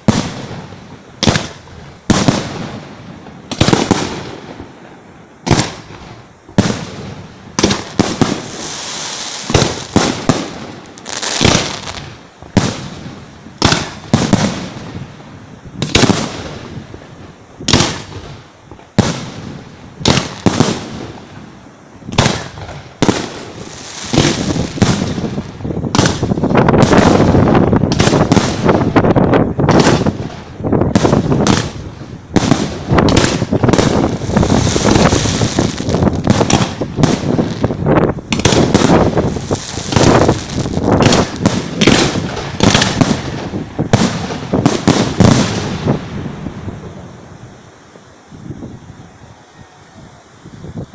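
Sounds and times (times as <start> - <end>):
firework bursts and crackling: 0.0 - 48.5.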